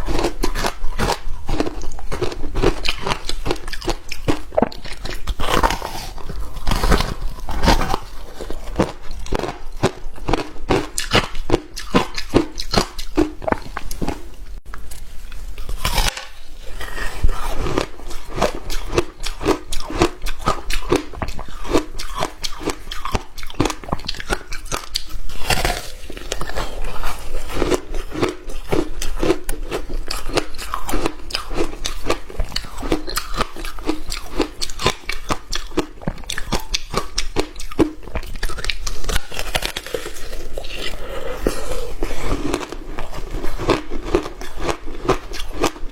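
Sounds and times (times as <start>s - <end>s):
ice crunching while chewed: 0.0s - 14.4s, 15.3s - 45.9s.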